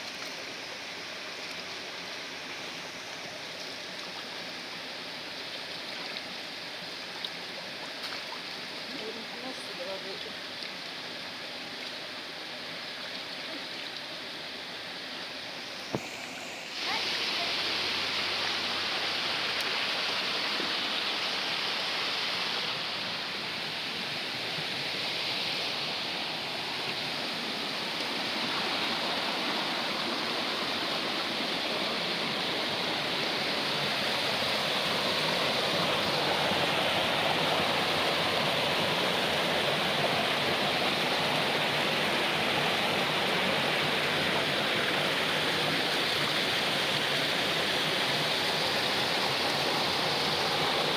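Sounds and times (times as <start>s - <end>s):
running water: 0.0s - 50.9s.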